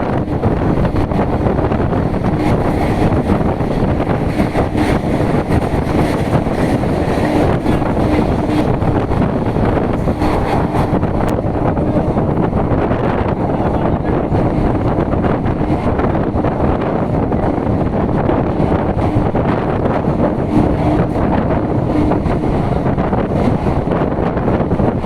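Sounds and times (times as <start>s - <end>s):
train wheels rumbling on track: 0.0s - 25.0s
wind rushing over microphone: 0.0s - 25.0s.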